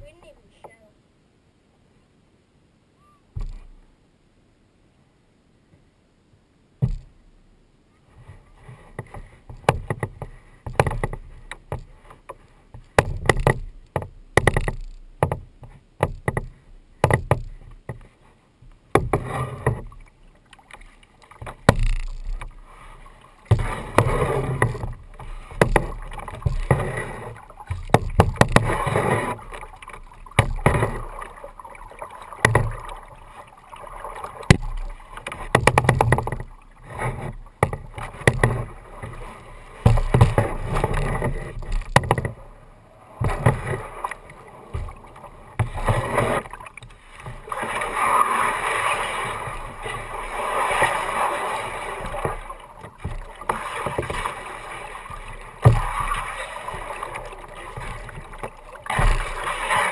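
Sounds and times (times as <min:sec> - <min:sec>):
paddle knocking kayak hull: 0:03.4 - 0:03.8, 0:06.8 - 0:07.2, 0:08.6 - 0:59.9
paddle splashing water: 0:07.9 - 0:59.9.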